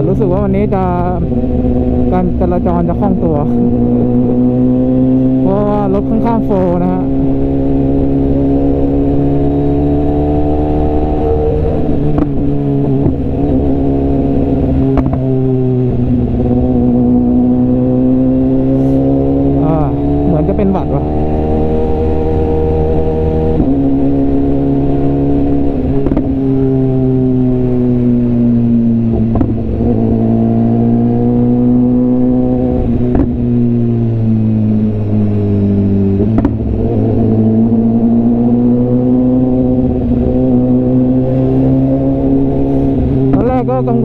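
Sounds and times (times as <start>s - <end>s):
motorcycle engine and exhaust: 0.0s - 44.0s.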